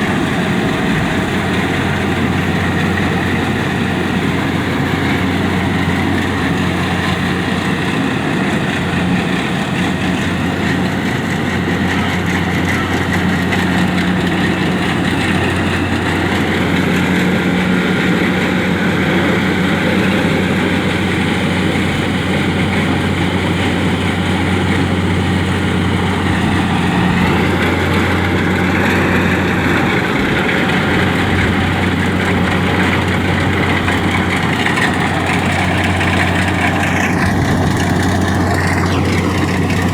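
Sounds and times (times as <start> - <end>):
diesel engine running: 0.0 - 39.9
harvesting machinery whirring: 0.0 - 39.9.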